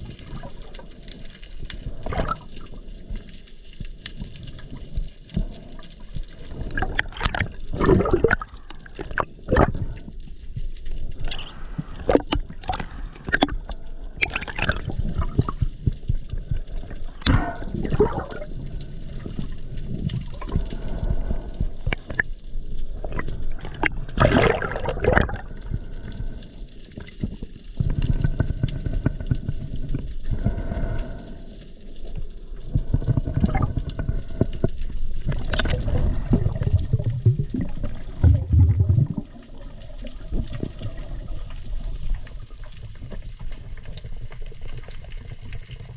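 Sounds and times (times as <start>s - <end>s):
water gurgling and sloshing: 0.0s - 45.9s.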